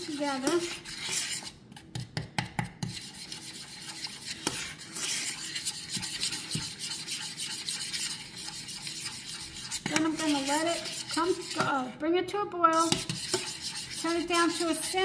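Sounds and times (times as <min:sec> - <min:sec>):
utensil scraping a saucepan: 0:00.0 - 0:02.0, 0:02.8 - 0:12.0, 0:12.7 - 0:15.0.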